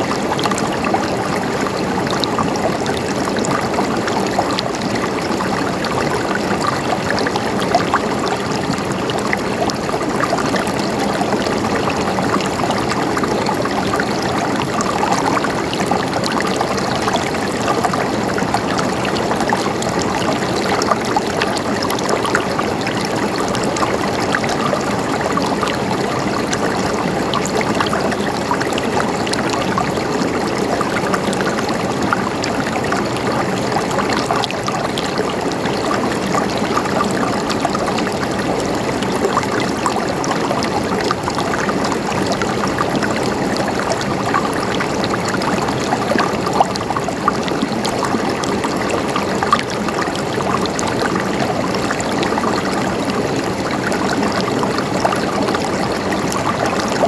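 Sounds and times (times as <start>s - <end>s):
water flowing and gurgling: 0.0s - 57.0s.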